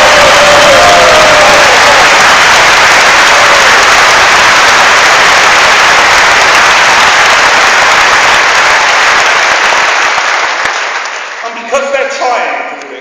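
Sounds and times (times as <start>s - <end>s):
large audience applauding: 0.0s - 12.4s.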